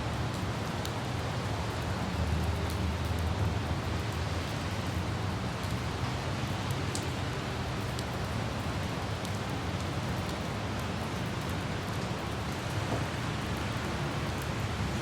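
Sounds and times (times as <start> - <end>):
rain falling on streets: 0.0 - 15.0
light traffic rumble: 0.1 - 15.0.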